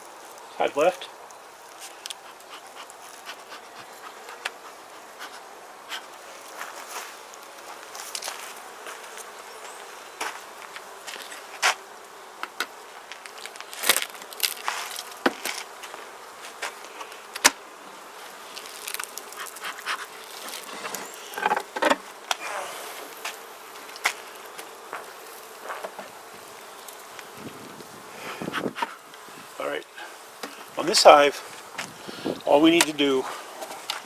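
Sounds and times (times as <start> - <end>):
honeybees buzzing: 0.0 - 34.0.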